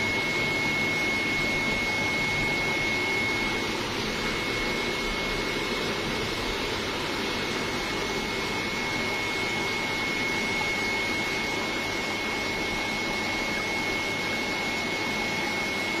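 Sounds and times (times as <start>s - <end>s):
high-pitched machine whine: 0.0s - 16.0s
machine rushing hum: 0.0s - 16.0s.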